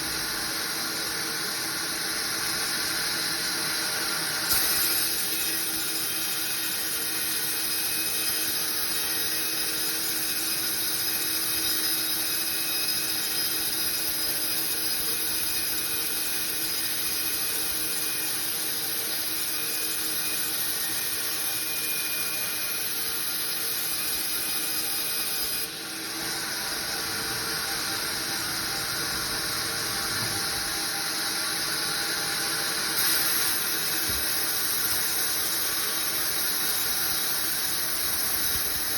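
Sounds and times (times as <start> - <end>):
sawmill saw cutting timber: 0.0 - 38.9.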